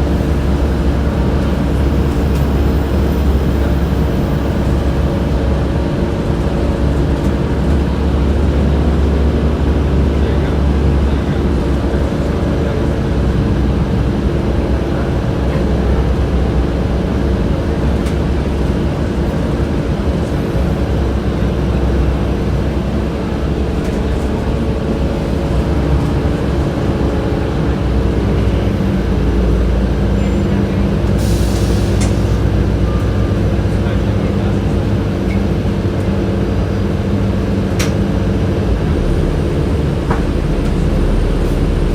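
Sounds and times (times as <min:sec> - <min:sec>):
bus air conditioning hum: 0:00.0 - 0:41.9
bus drivetrain drone and road rumble: 0:00.0 - 0:41.9.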